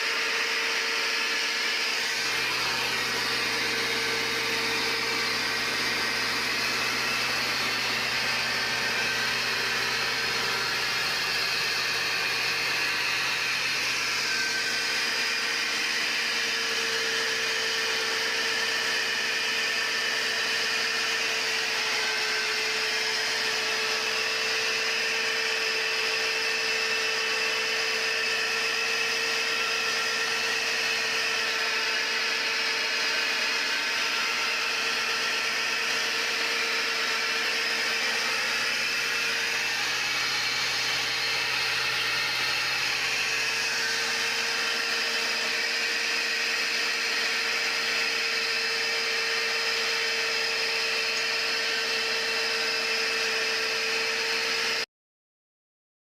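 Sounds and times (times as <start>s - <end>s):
machine motor whining: 0.0s - 54.8s.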